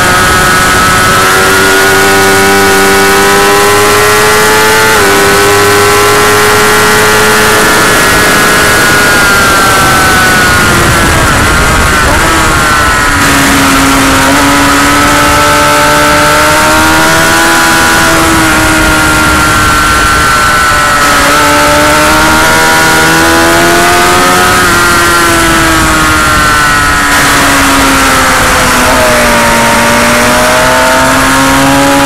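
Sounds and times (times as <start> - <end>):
motorcycle engine revving high: 0.0 - 32.0
wind noise: 0.0 - 32.0.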